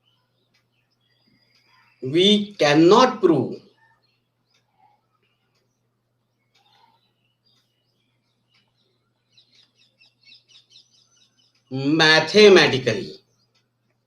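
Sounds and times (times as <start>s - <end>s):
birds chirping: 0.0s - 14.0s
low electrical hum: 0.0s - 14.0s.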